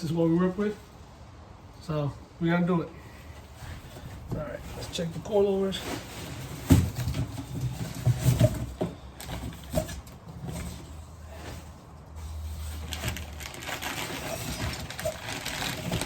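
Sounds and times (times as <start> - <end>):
parts and packaging handled: 3.1 - 16.0.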